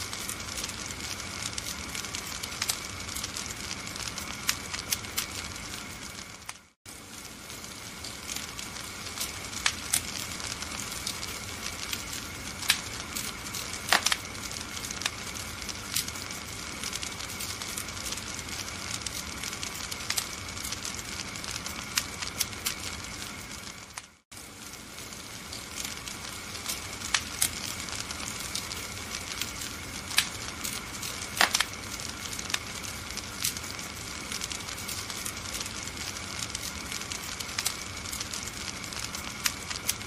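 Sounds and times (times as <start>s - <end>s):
sharp pops of fire: 0.0s - 40.0s
wood fire crackling: 0.0s - 40.0s.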